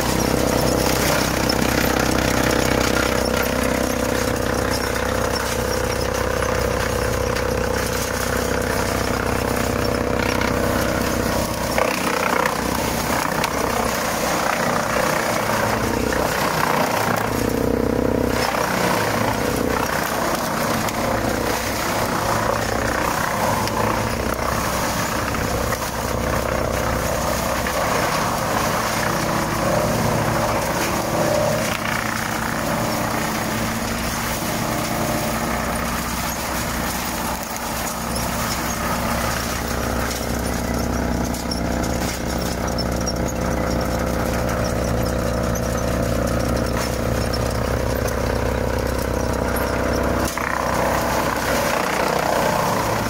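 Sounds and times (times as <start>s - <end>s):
tractor engine hum: 0.0s - 53.0s
wood chipper chipping branches: 0.0s - 53.0s.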